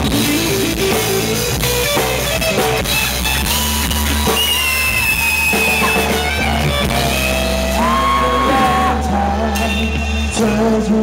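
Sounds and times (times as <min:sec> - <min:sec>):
bass: 0:00.0 - 0:11.0
bending lead guitar: 0:00.0 - 0:11.0
drum kit: 0:00.0 - 0:11.0.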